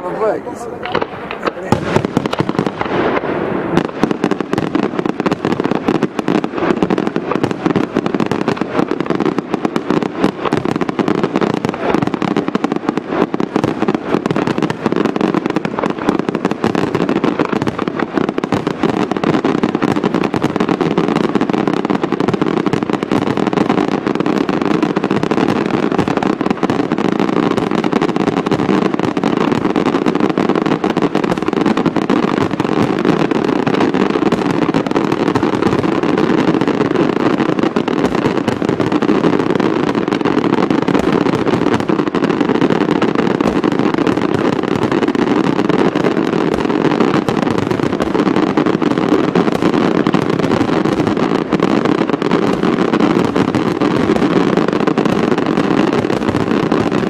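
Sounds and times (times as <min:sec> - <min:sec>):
firework shells bursting: 0:00.1 - 0:57.0.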